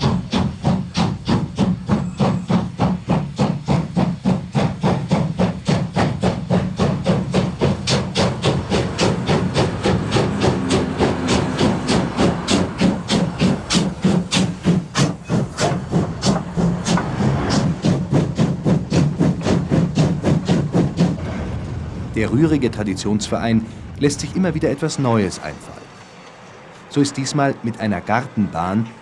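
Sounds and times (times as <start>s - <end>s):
steam locomotive exhaust chuffs: 0.0s - 29.0s
train rumble: 0.0s - 29.0s.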